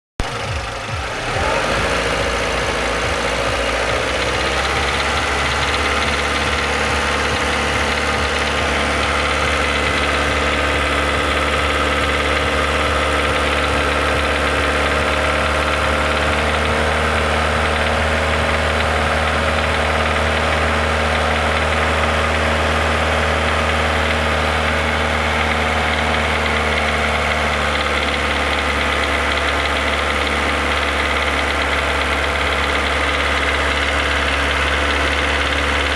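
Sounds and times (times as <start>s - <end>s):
car engine running: 0.2s - 35.9s
engine knocking: 0.2s - 35.9s.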